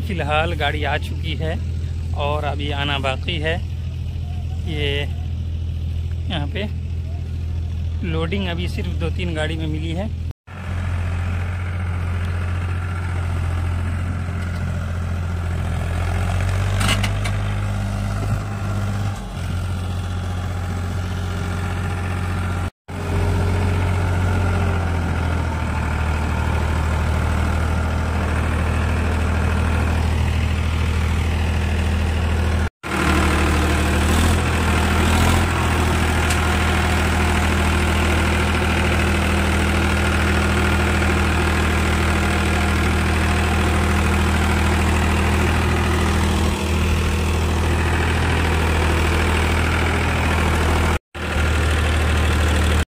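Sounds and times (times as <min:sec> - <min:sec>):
diesel tractor engines idling: 0:00.0 - 0:52.9.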